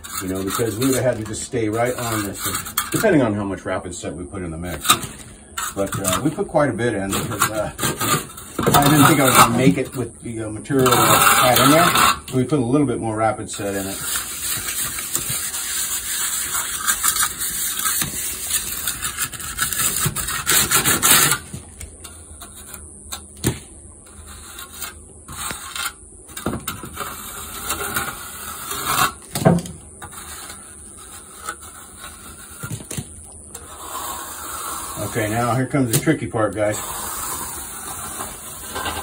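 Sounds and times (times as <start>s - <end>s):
trowel scraping stucco: 0.0s - 12.8s, 13.5s - 23.3s, 24.0s - 39.0s.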